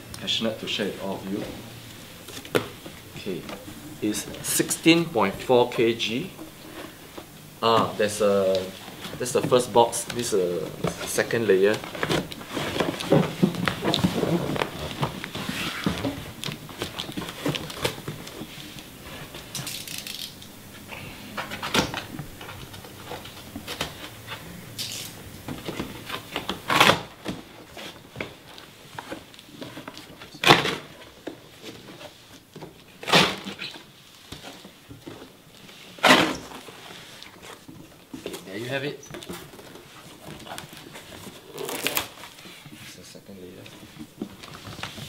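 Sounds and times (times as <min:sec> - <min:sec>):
cardboard flaps rustling: 0:02.2 - 0:19.6, 0:20.5 - 0:45.0.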